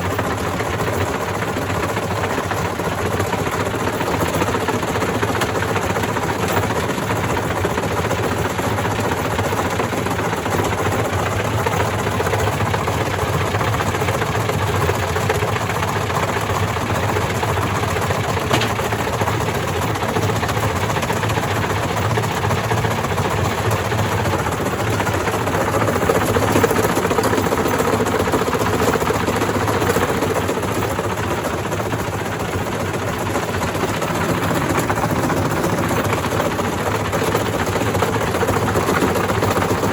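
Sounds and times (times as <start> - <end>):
washing machine motor and drum: 0.0 - 39.9.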